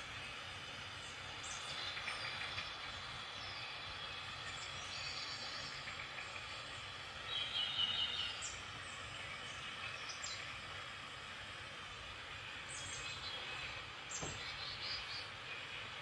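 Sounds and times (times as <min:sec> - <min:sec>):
birds chirping: 0:00.0 - 0:10.9, 0:12.0 - 0:16.0
road and rain noise: 0:00.0 - 0:16.0.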